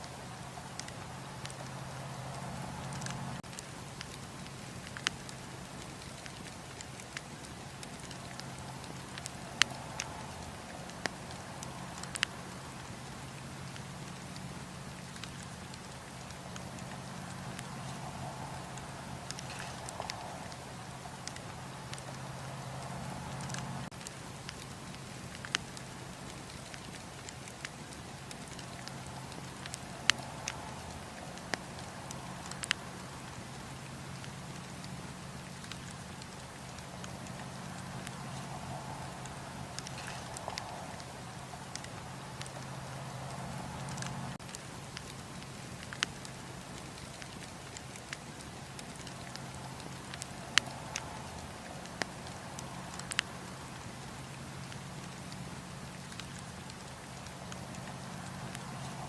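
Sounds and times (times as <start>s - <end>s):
campfire rumble: 0.0s - 59.0s
crackles and pops of wood: 0.0s - 59.0s.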